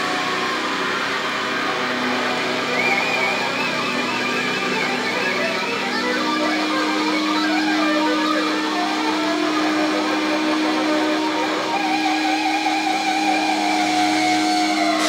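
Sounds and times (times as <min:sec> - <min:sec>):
droning electric guitars and bass: 0:00.0 - 0:15.0
higher wavering tone: 0:00.0 - 0:15.0.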